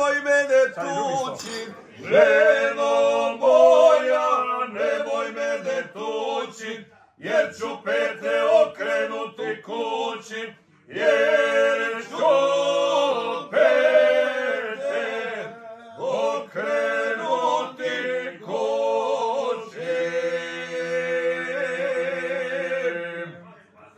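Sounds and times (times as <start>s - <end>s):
men singing unaccompanied: 0.0s - 23.4s.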